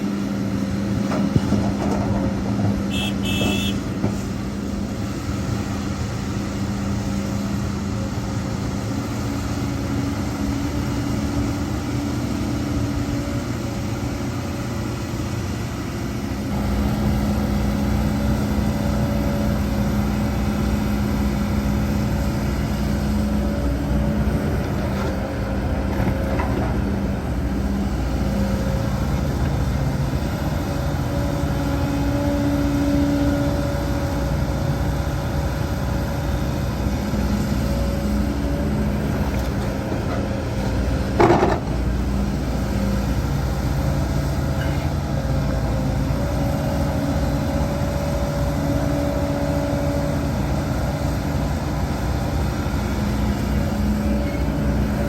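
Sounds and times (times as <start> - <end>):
diesel machinery engines running: 0.0 - 55.0.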